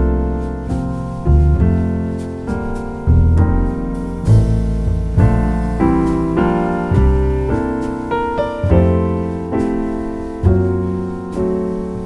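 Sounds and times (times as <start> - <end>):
piano chords over bass: 0.0 - 12.0.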